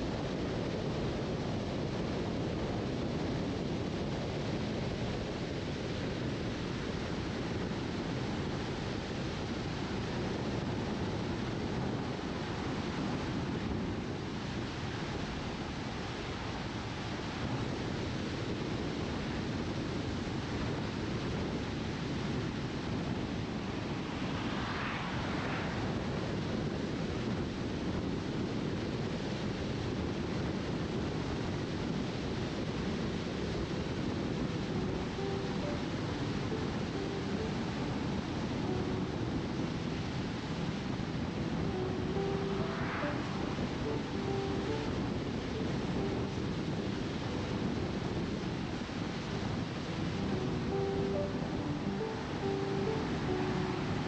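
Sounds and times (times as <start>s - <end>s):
wind and tyre noise: 0.0s - 54.0s.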